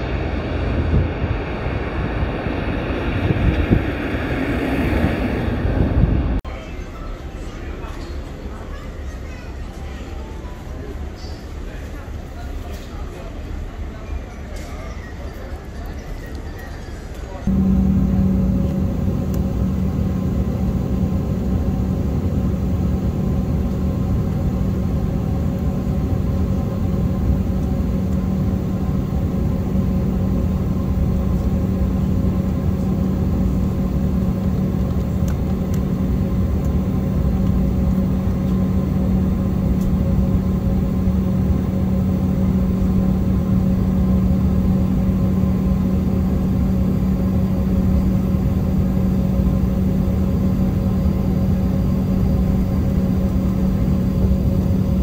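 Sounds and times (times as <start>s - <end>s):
constant low hum: 0.0s - 6.4s, 11.2s - 55.0s
machinery engine rumble: 0.0s - 6.4s, 17.3s - 55.0s.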